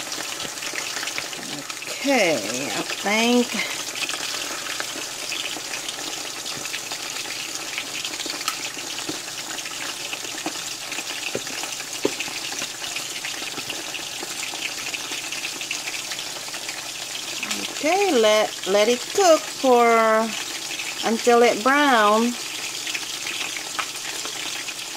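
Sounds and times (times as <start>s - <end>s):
oil sizzling with small pops: 0.0s - 24.9s.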